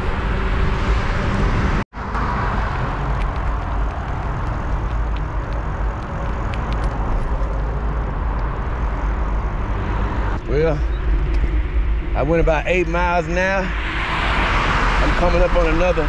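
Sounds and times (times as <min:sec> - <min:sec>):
road traffic: 0:00.0 - 0:16.0
wind rumble on microphone: 0:00.0 - 0:16.0.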